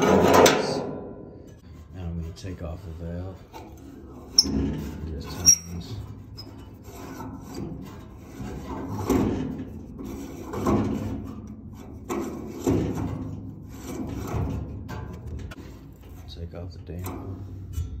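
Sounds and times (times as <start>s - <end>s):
metal parts rubbing and scraping: 1.6s - 18.0s.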